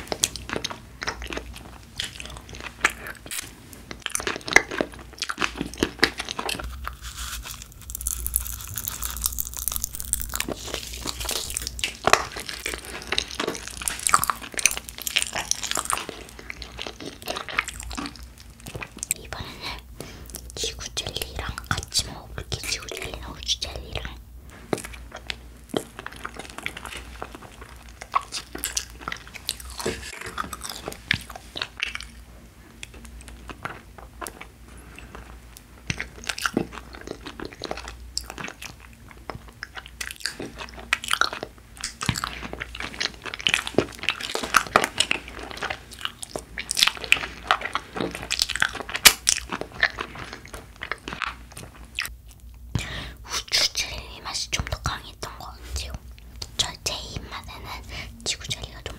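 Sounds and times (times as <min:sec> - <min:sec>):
person chewing gummies: 0:00.0 - 0:58.9.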